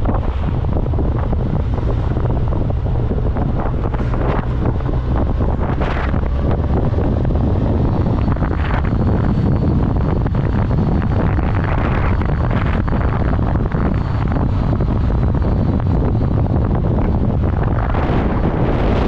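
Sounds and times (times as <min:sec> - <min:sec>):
vehicle ride rumble: 0:00.0 - 0:19.0
wind buffeting microphone: 0:00.0 - 0:19.0.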